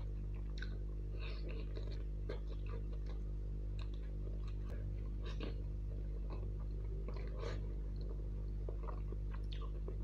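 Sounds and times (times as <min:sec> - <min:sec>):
low electrical hum: 0:00.0 - 0:10.0
man chewing food: 0:00.0 - 0:10.0.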